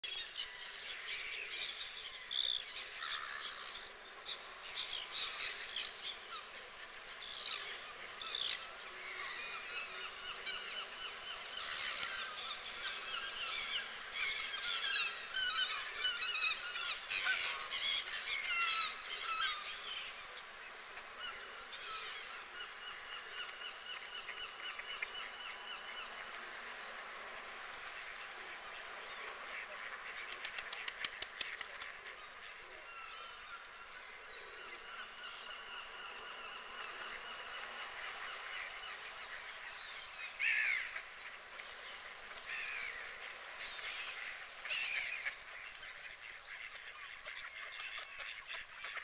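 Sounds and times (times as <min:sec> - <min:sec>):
faint steady hiss: 0:00.0 - 0:49.0.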